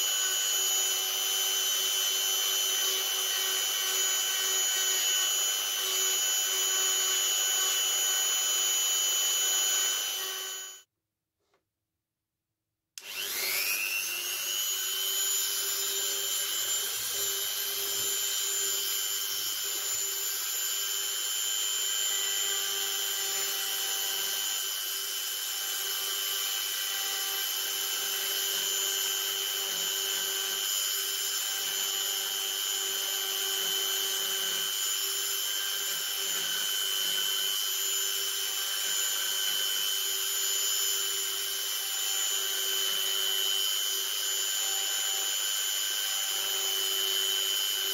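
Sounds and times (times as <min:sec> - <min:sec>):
rotary tool high whine: 0:00.0 - 0:10.9, 0:13.0 - 0:47.9.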